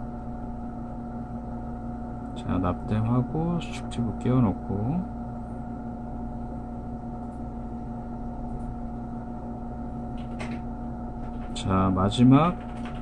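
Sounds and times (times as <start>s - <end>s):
electrical hum of bench equipment: 0.0s - 13.0s.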